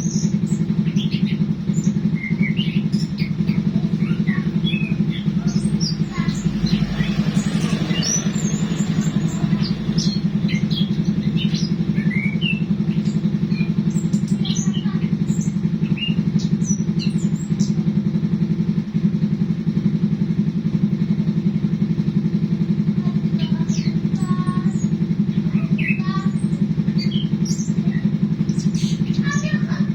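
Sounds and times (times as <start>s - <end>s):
motor running with fast pulse: 0.0s - 29.9s
small birds chirping: 0.0s - 29.9s.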